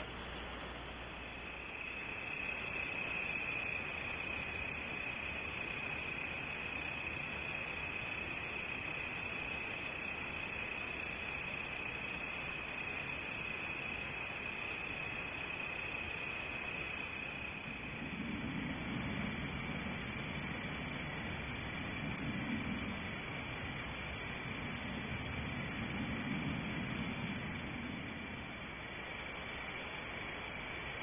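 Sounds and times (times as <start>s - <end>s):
crickets trilling: 0.0s - 31.0s
microphone hiss: 0.0s - 31.0s.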